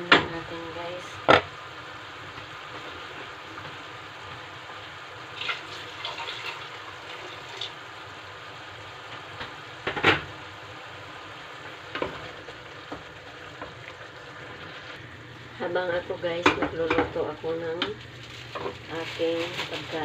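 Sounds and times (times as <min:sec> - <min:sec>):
pot hissing on stove: 0:00.0 - 0:20.0.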